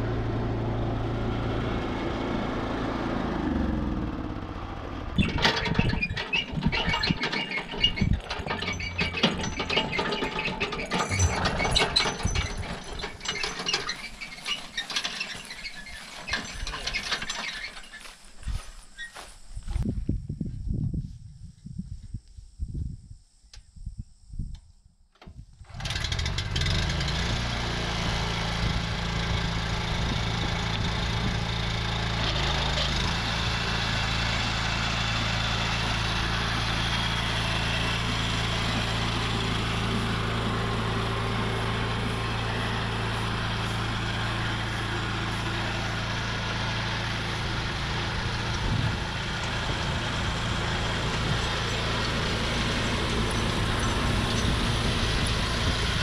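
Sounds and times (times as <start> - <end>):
small gasoline engine running: 0.0 - 17.7, 25.7 - 56.0.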